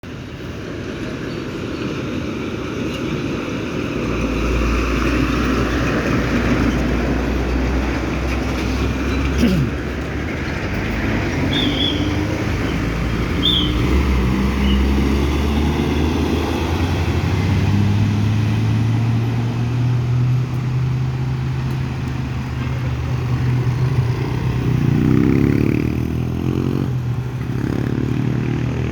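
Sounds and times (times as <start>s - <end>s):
truck engines droning: 0.0s - 28.9s.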